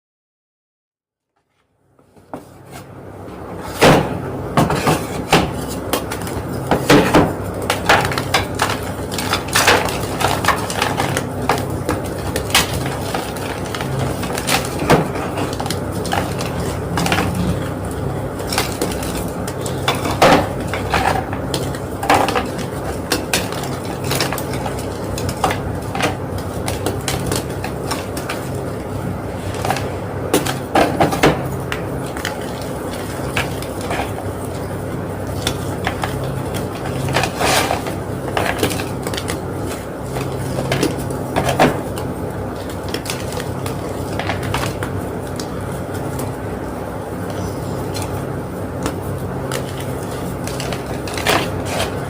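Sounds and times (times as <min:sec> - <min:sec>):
low steady hum: 0:01.5 - 0:52.0.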